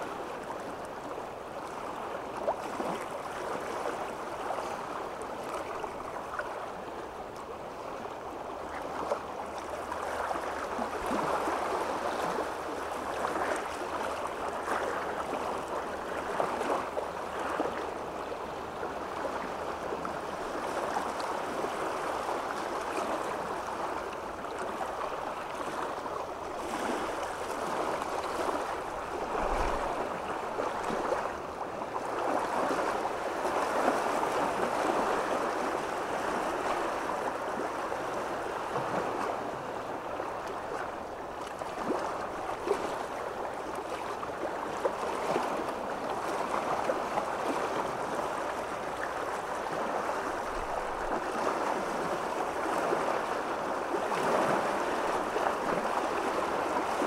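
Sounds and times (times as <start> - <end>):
water rippling: 0.0 - 57.0.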